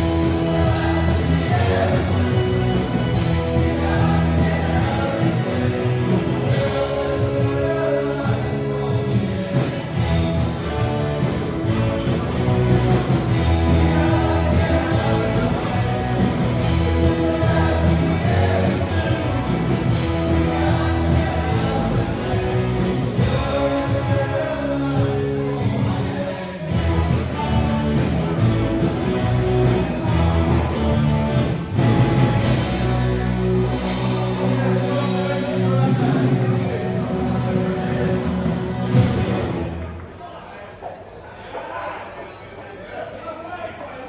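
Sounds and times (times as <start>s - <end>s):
person singing: 0.0s - 31.8s, 32.4s - 39.8s
live rock band playing: 0.0s - 40.0s
drums: 0.0s - 41.2s.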